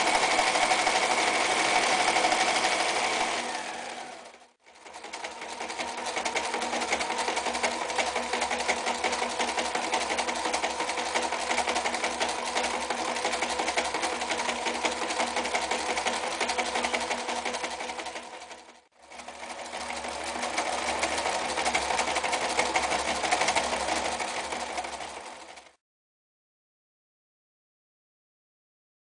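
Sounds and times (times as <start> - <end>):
sewing machine running: 0.0 - 25.8.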